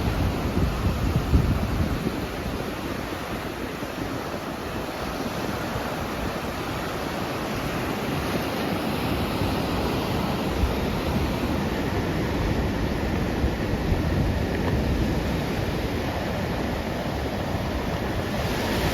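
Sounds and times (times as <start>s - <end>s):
surf breaking on sandy beach: 0.0s - 18.9s.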